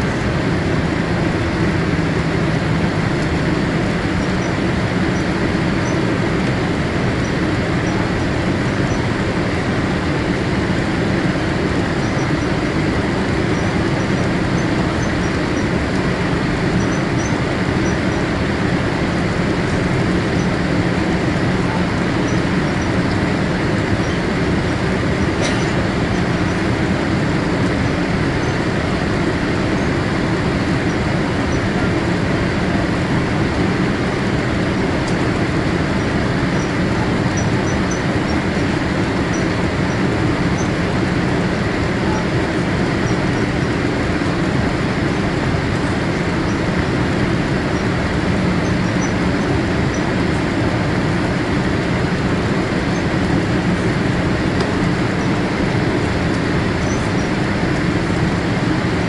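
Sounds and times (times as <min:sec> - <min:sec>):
low jet engine hum: 0:00.0 - 0:59.0.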